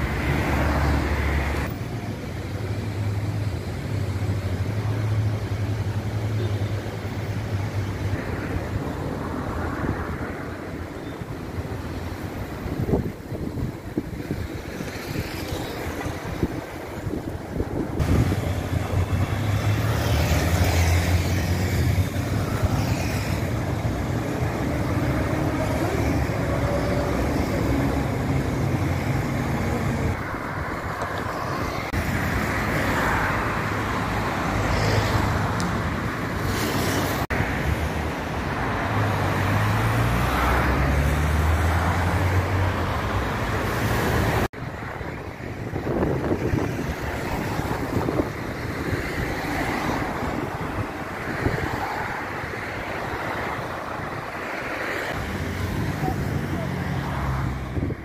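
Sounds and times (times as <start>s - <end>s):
cars passing: 0.0s - 58.0s.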